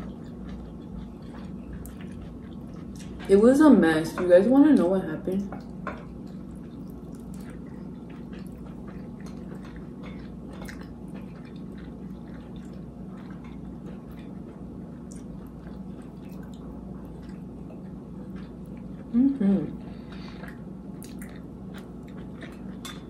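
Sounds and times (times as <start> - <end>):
chewing and wet mouth sounds: 0.0 - 3.5, 5.4 - 23.0
steady low hum: 0.0 - 23.0.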